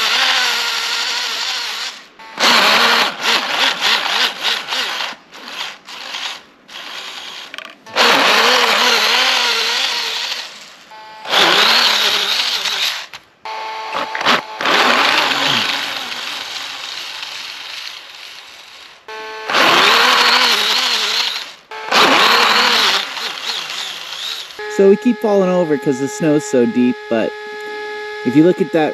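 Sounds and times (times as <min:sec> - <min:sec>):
electric motor whirring: 0:00.0 - 0:28.9.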